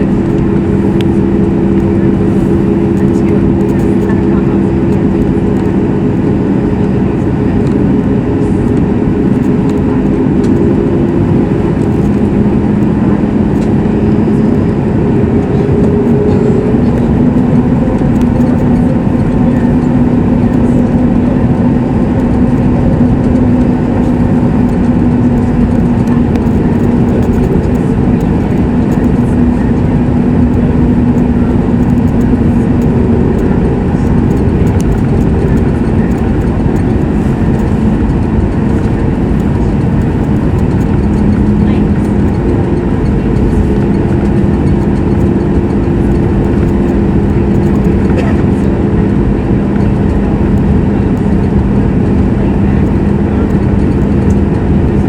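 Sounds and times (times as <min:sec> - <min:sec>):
jet engine rumble inside cabin: 0:00.0 - 0:55.0.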